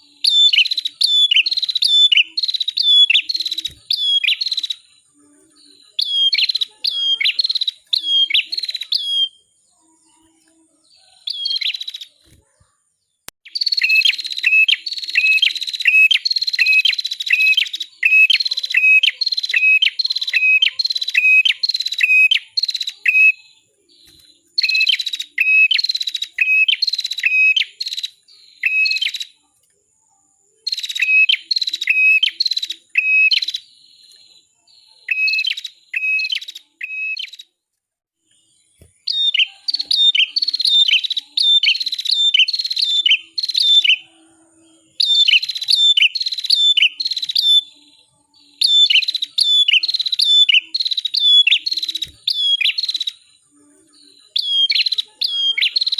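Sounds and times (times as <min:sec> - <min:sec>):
bird whistling song: 0:00.0 - 0:05.0, 0:05.8 - 0:09.5, 0:11.0 - 0:12.4, 0:13.4 - 0:29.4, 0:30.6 - 0:37.5, 0:38.6 - 0:44.1, 0:44.9 - 0:53.3, 0:54.2 - 0:55.9.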